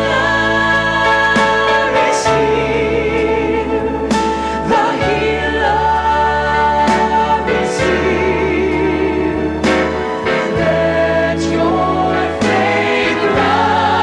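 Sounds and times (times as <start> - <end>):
gospel singing with vibrato: 0.0 - 14.0
instrumental accompaniment: 0.0 - 14.0.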